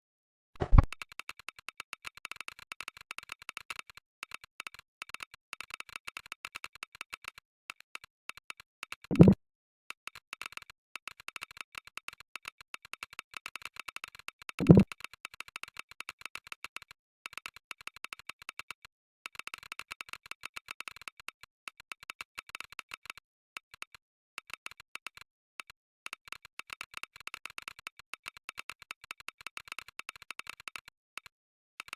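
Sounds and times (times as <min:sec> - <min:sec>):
keyboard typing clicks: 0:00.6 - 0:07.4, 0:08.8 - 0:09.4, 0:10.3 - 0:31.9.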